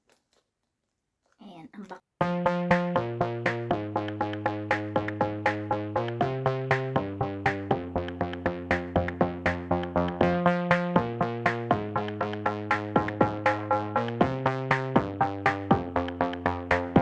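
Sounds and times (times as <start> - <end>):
drum machine beat: 2.2 - 17.0
synthesizer chords: 2.2 - 17.0.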